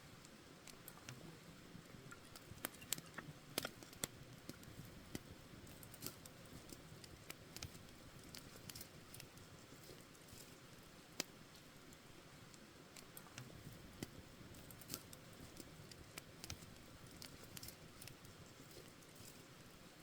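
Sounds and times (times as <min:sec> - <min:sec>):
faint low hiss: 0:00.0 - 0:20.0
campfire crackling and popping: 0:01.8 - 0:19.6.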